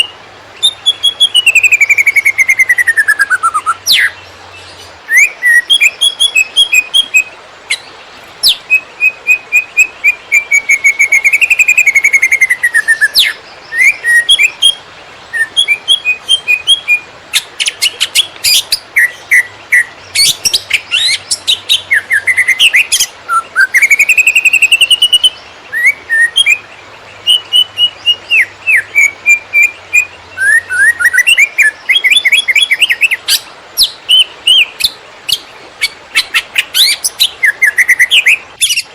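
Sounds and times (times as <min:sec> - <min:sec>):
bird singing chirps and whistles: 0:00.0 - 0:38.9.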